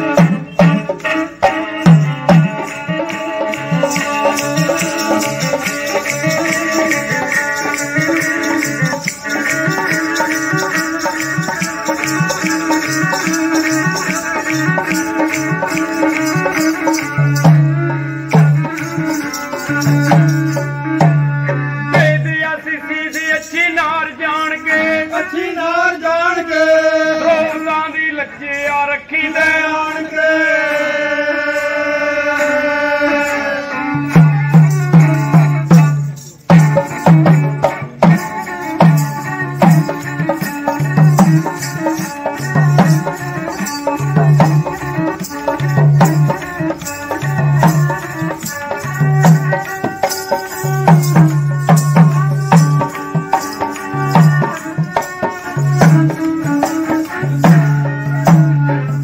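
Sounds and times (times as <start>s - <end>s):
hand drum beat: 0.0s - 22.3s, 34.0s - 59.0s.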